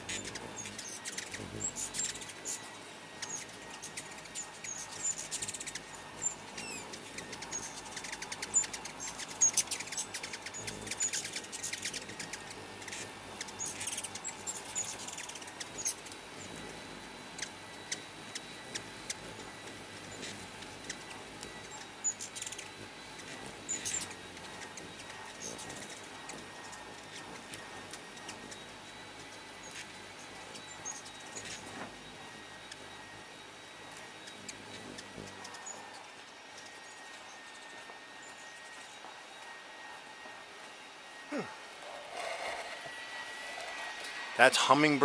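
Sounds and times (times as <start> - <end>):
hummingbirds chipping and twittering: 0.0 - 45.0.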